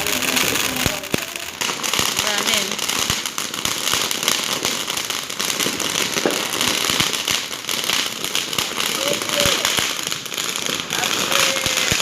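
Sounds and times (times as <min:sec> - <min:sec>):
firecrackers popping and crackling: 0:00.0 - 0:12.0
loud firework bangs: 0:00.0 - 0:12.0.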